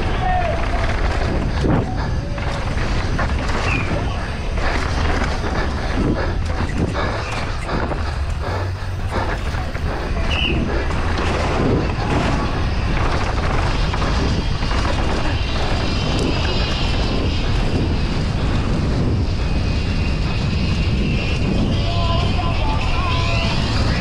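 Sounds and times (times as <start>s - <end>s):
bike rattling over rough ground: 0.0s - 24.0s
wind rush over microphone: 0.0s - 24.0s.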